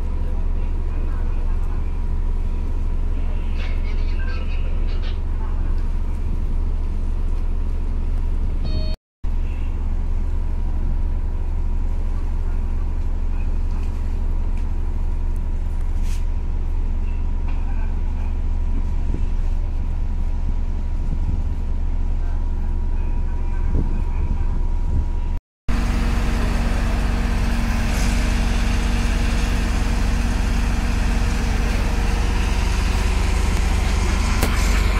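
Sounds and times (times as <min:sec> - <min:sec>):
low rumble of ship machinery: 0:00.0 - 0:34.9.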